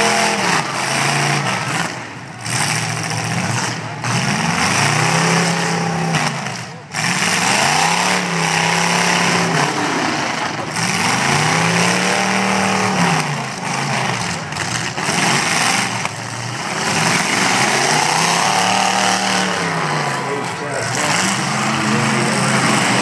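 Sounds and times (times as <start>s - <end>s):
pickup engines revving: 0.0s - 23.0s.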